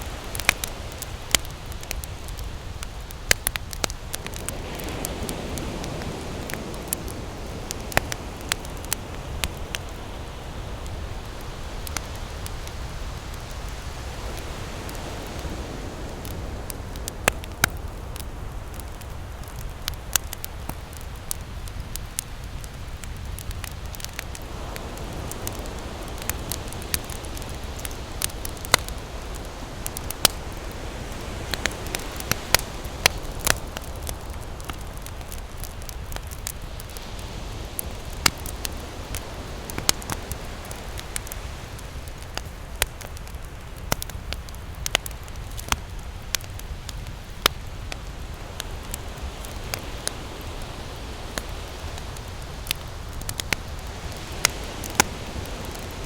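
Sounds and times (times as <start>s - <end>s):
ocean waves rushing: 0.0s - 20.7s, 23.7s - 43.6s, 48.0s - 56.0s
campfire crackling and popping: 0.0s - 56.0s.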